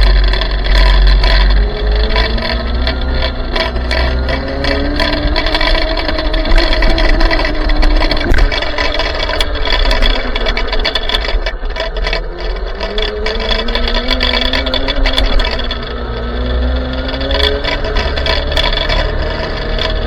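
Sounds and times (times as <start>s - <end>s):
low rumble: 0.0s - 18.1s
clicks and rattles: 0.0s - 20.0s
electric motor whining: 0.0s - 20.0s.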